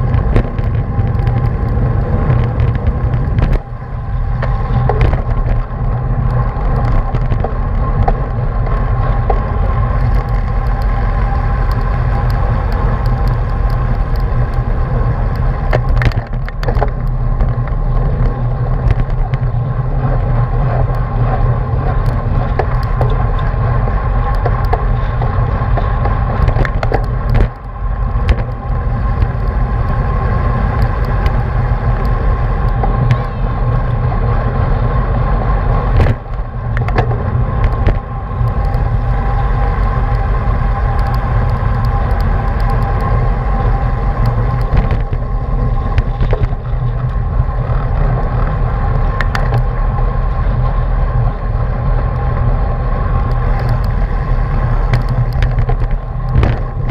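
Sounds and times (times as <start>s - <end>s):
road and tyre rumble: 0.0s - 56.9s
wind buffeting microphone: 0.0s - 56.9s.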